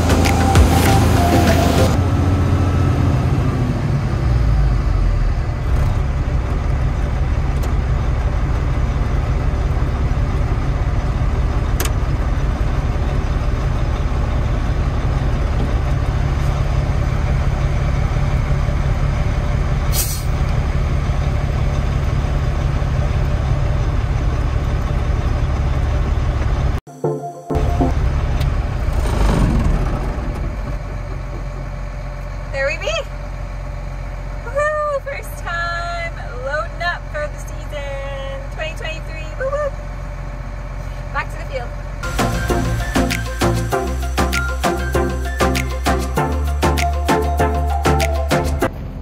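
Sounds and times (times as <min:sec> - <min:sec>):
heavy vehicle engine running: 0:00.0 - 0:49.0.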